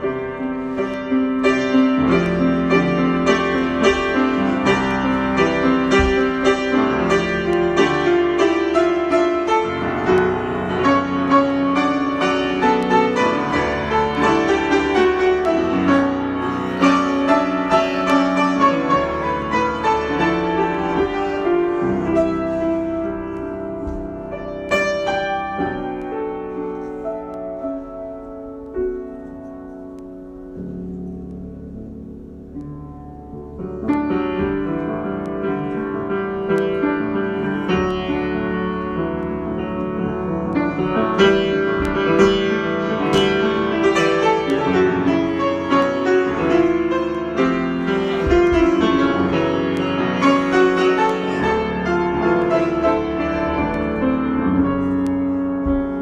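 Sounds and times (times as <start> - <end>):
solo piano improvisation: 0.0 - 56.0.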